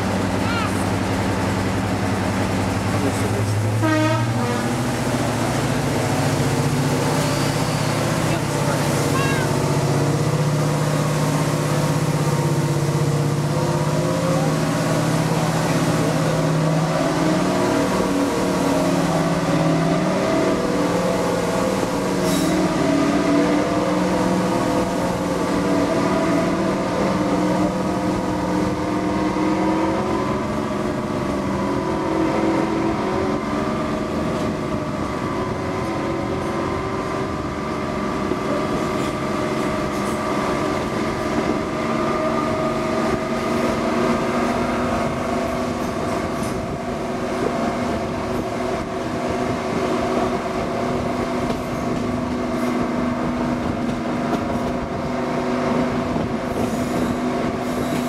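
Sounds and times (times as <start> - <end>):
diesel locomotive engine: 0.0 - 58.0
wheel and rail noise: 0.0 - 58.0.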